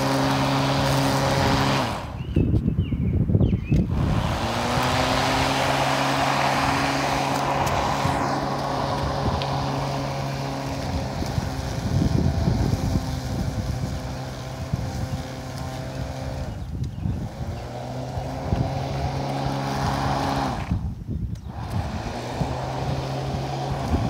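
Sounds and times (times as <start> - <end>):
electric lawn mower motor humming: 0.0 - 2.6, 3.8 - 24.0.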